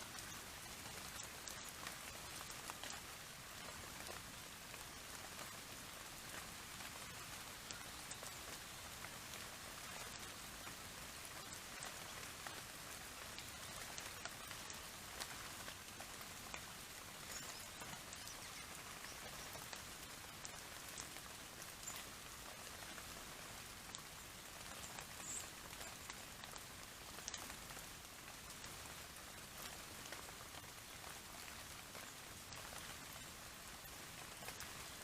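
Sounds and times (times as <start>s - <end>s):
light rain pattering: 0.0s - 35.0s.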